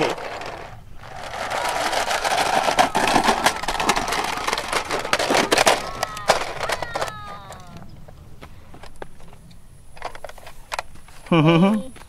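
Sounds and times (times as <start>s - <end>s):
toy truck wheels rolling and rattling: 0.0s - 7.9s, 8.8s - 11.4s.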